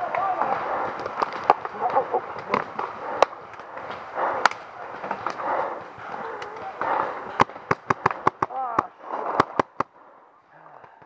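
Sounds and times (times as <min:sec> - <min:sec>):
paintball markers firing: 0:00.0 - 0:10.0.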